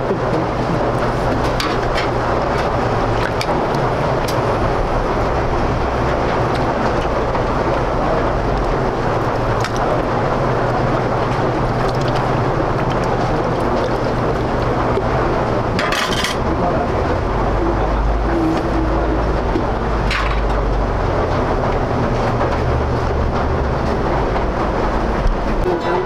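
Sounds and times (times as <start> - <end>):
loud steady roar: 0.0 - 26.0.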